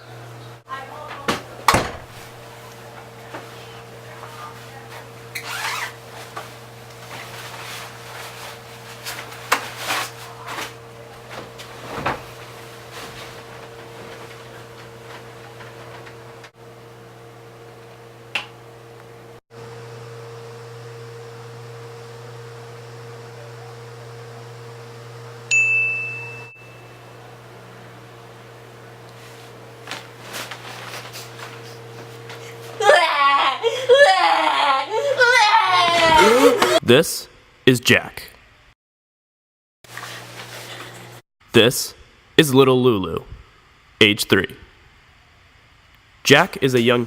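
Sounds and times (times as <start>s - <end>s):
electrical hum: 0.0s - 38.7s, 39.9s - 47.0s.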